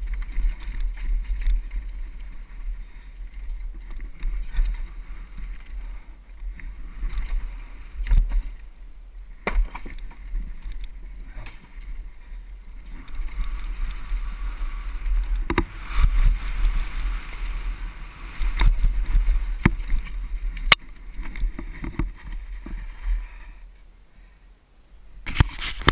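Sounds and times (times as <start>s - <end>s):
wind rumble on microphone: 0.0s - 23.7s.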